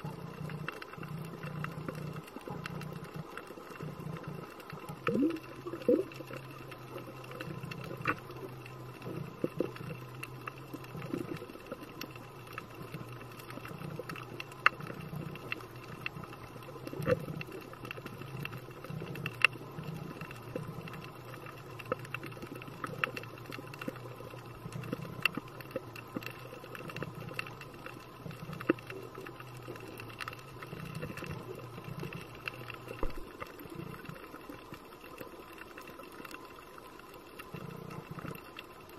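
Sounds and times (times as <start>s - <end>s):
sharp underwater clicks and crackle: 0.0s - 38.9s.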